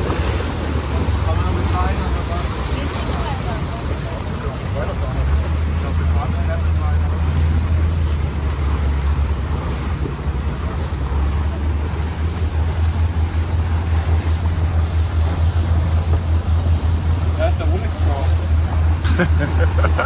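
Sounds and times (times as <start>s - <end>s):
boat engine droning: 0.0s - 20.0s
water noise: 0.0s - 20.0s.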